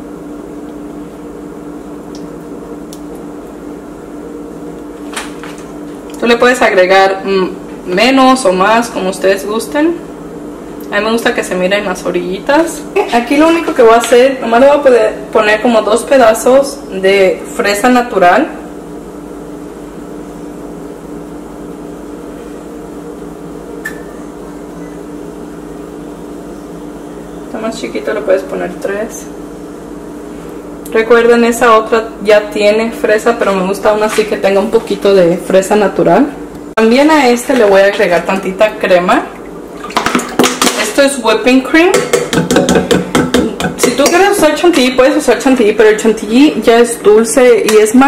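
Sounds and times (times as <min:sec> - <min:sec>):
electrical hum of appliance: 0:00.0 - 0:48.0.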